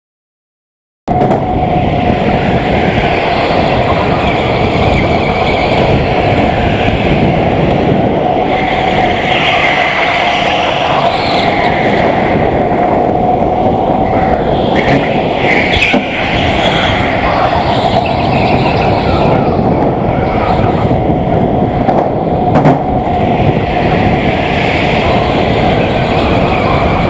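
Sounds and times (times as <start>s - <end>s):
wind and tyre rumble: 1.1s - 27.0s.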